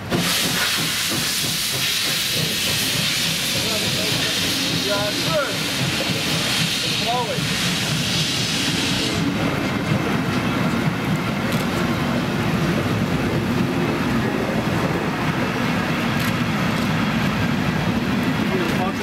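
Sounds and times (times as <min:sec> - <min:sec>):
steam hissing: 0:00.0 - 0:19.0
train wheels clattering over rails: 0:00.0 - 0:19.0.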